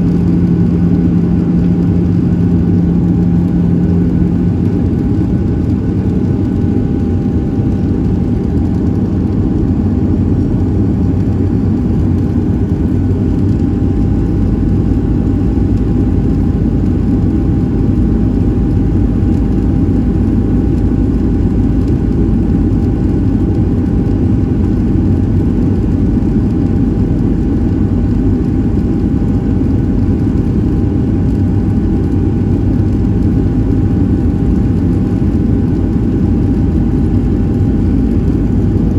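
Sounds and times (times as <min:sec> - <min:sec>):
faint constant whine: 0:00.0 - 0:38.9
jet engine cabin drone: 0:00.0 - 0:38.9.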